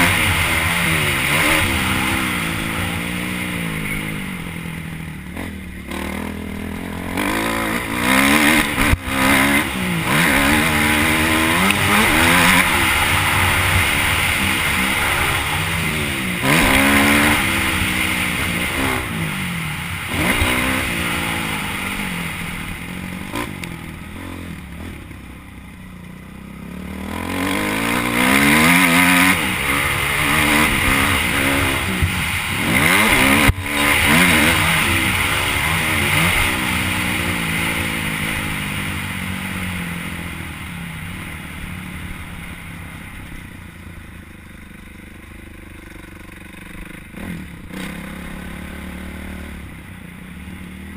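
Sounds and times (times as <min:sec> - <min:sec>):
motocross bike engine revving: 0:00.0 - 0:25.4, 0:26.0 - 0:42.8, 0:45.4 - 0:50.9.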